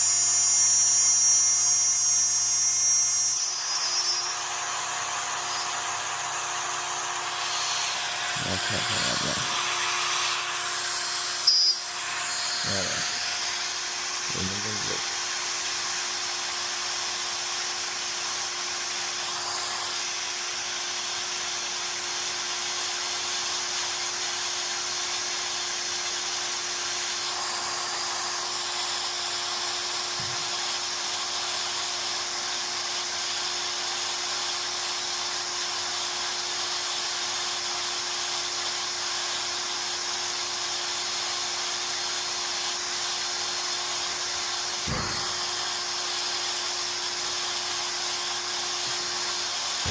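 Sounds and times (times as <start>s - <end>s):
router spindle whining: 0.0s - 21.6s, 26.8s - 49.9s.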